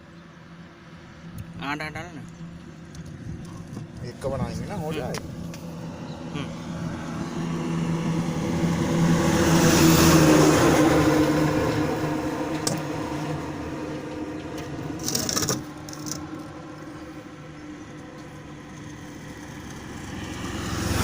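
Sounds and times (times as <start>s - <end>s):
another vehicle engine: 0.0s - 21.0s
vehicle engine: 0.0s - 21.0s.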